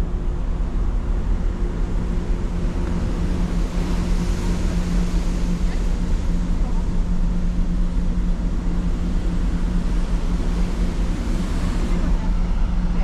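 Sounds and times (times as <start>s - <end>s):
ferry engine drone: 0.0s - 13.0s
sea rushing: 0.0s - 13.0s.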